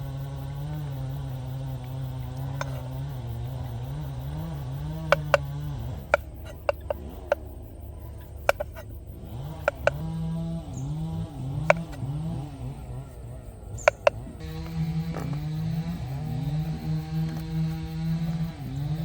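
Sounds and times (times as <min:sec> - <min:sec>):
low wavering hum: 0:00.0 - 0:19.0.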